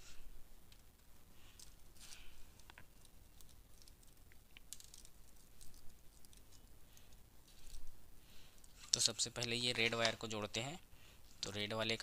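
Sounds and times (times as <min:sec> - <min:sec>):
wires rustling and ticking: 0:00.0 - 0:12.0.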